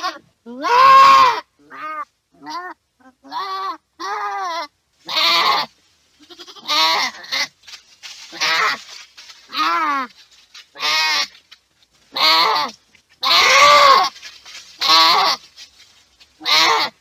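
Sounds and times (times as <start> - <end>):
goat bleating: 0.0 - 7.6, 8.2 - 11.5, 12.1 - 15.6, 16.4 - 17.0.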